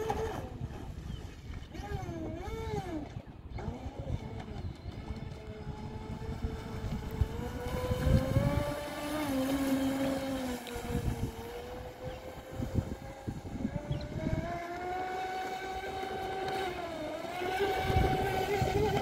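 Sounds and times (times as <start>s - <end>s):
toy boat motor whining: 0.0s - 19.0s.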